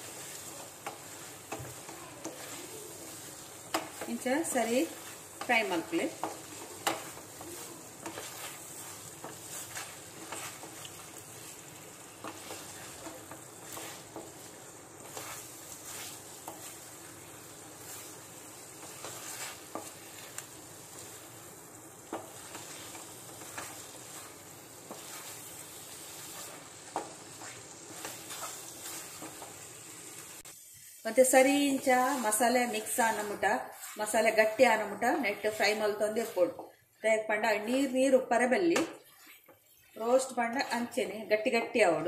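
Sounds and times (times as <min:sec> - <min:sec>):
spatula scraping a pan: 0:00.0 - 0:41.1
food sizzling in a pan: 0:00.0 - 0:42.0.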